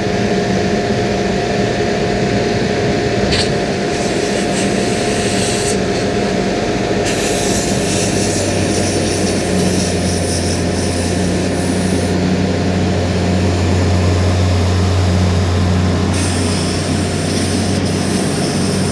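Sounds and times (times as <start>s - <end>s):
large engine humming: 0.0s - 18.9s.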